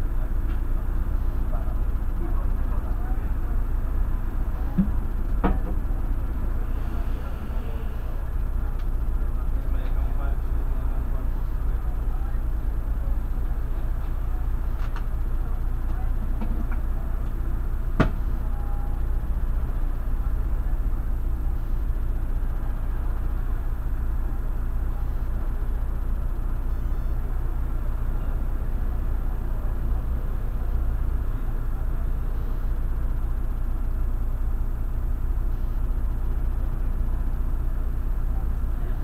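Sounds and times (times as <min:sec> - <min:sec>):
bus diesel engine: 0:00.0 - 0:39.0
road rumble: 0:00.0 - 0:39.0.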